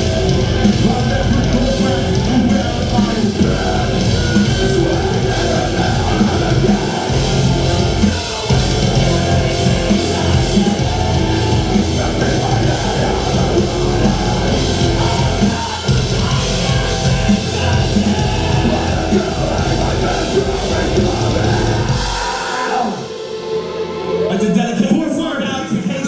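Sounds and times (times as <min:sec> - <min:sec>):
live heavy metal band: 0:00.0 - 0:26.0.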